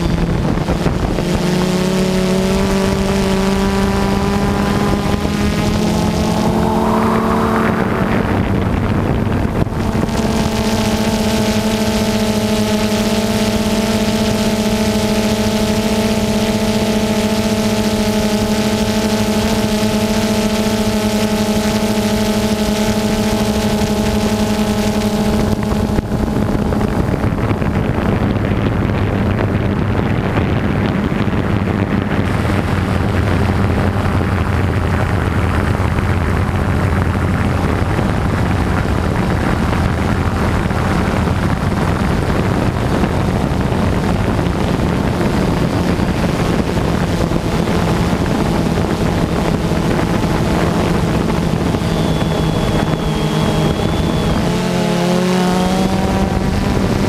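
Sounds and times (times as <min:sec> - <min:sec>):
drone propellers buzzing: 0:00.0 - 0:57.0
wind noise on microphone: 0:00.0 - 0:57.0.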